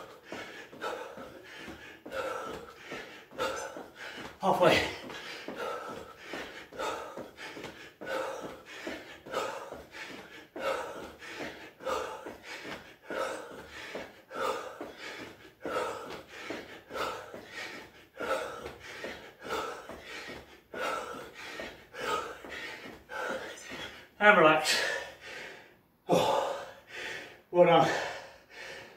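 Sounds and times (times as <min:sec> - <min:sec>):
man breathing hard: 0:00.0 - 0:28.9.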